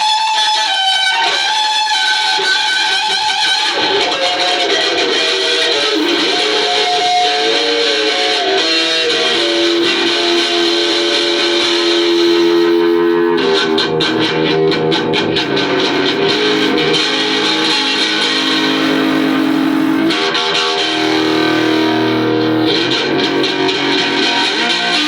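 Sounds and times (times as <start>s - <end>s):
electric guitar playing blues-rock: 0.0s - 25.0s.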